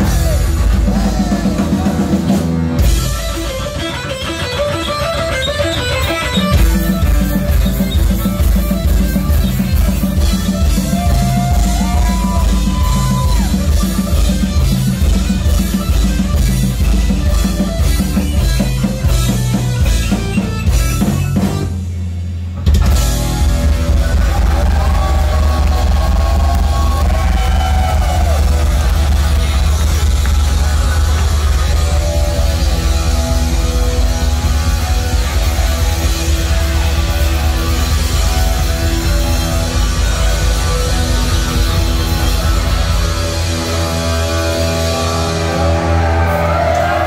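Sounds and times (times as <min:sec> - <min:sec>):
heavy metal band playing: 0:00.0 - 0:47.0.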